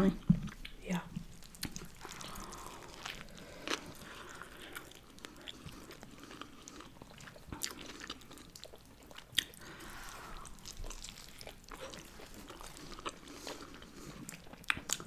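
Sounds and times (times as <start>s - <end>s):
chewing and biting food: 0.5s - 15.0s.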